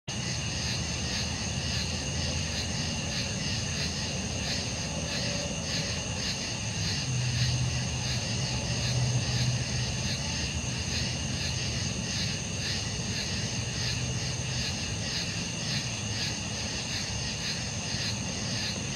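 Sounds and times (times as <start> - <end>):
night insects chirping: 0.1 - 18.9.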